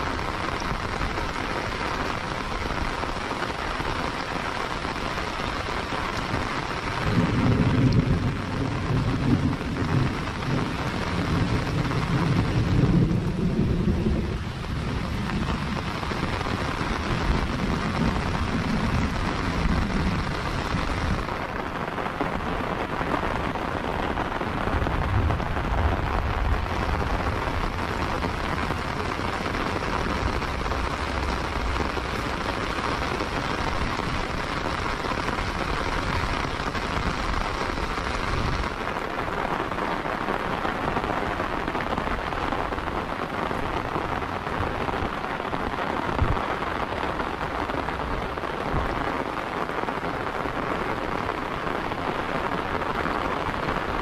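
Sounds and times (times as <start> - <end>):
heavy rain on paving: 0.0 - 54.0
thunder rumbling: 0.0 - 54.0.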